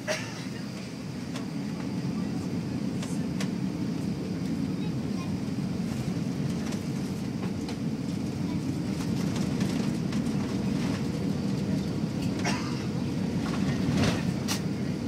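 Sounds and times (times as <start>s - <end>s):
airplane rumble inside cabin: 0.0s - 15.0s.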